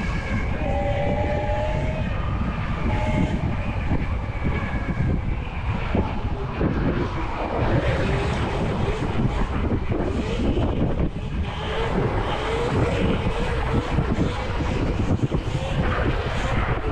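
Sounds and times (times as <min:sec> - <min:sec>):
electric motorbike riding: 0:00.0 - 0:16.9
faint whining tones: 0:00.0 - 0:16.9
wind buffeting microphone: 0:00.0 - 0:16.9.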